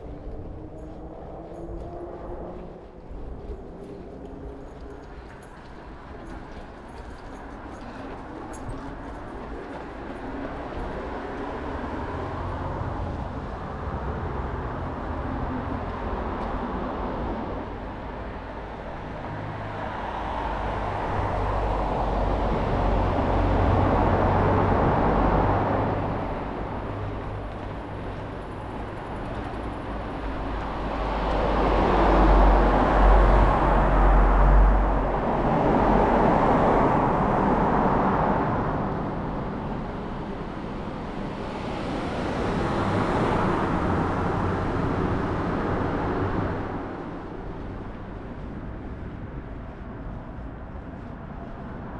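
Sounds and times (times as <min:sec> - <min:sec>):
vehicles passing by: 0:00.0 - 0:51.9.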